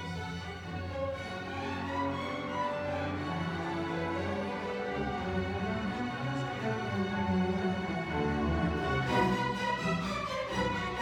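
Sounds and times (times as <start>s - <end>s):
orchestra strings sustained chords: 0.0s - 11.0s.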